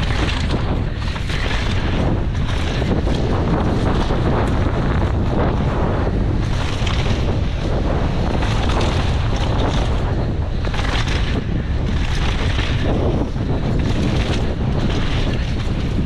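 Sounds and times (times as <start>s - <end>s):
bike tyres rolling over gravel: 0.0s - 16.0s
wind on microphone: 0.0s - 16.0s.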